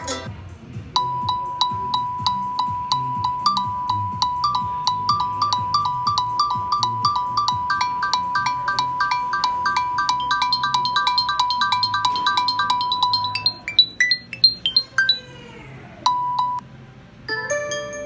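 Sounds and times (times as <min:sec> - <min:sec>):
phone ringtone: 0:01.0 - 0:15.4, 0:16.1 - 0:16.6.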